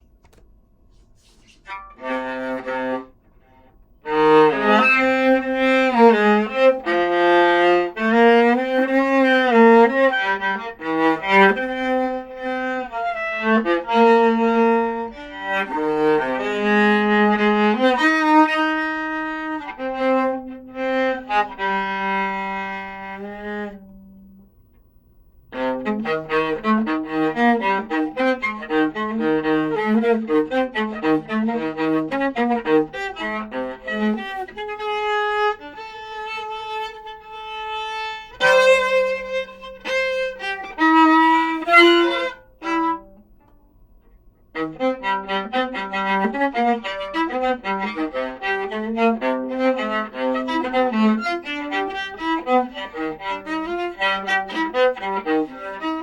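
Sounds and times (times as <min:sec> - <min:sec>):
solo viola bowed melody: 0:00.9 - 0:56.0.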